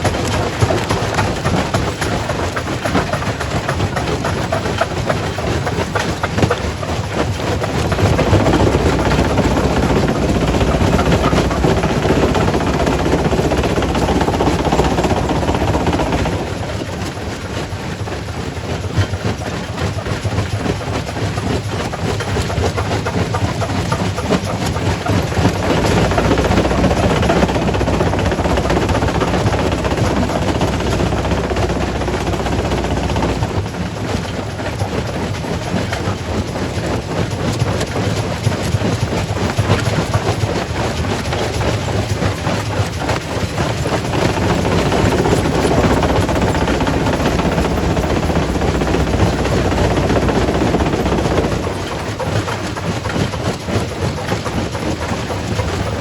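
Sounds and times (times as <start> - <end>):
rock crusher crushing stone: 0.0 - 17.5, 20.2 - 34.4, 37.7 - 56.0
low machine hum: 0.0 - 56.0.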